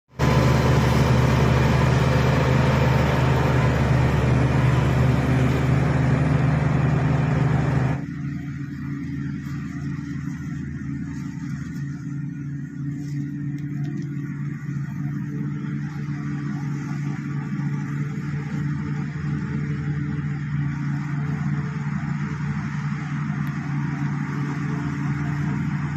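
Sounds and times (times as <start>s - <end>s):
bulldozer diesel engine running: 0.1s - 25.9s.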